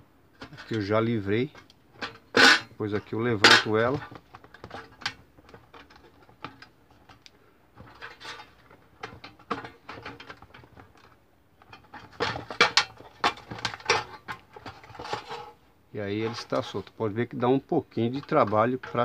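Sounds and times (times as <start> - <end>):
metal rattling against plastic: 0.3 - 19.0.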